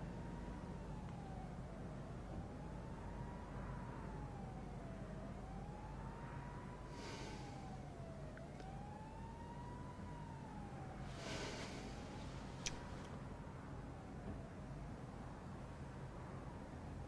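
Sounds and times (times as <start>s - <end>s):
faint siren wailing: 0.0s - 17.0s.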